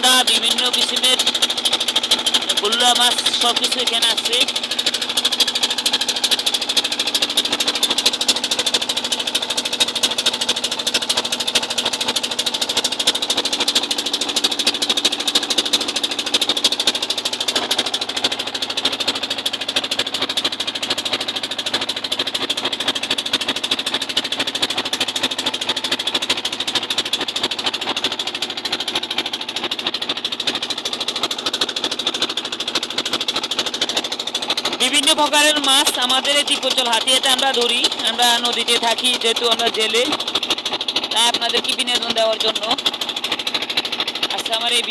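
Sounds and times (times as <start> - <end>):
boat engine chugging: 0.0 - 44.9.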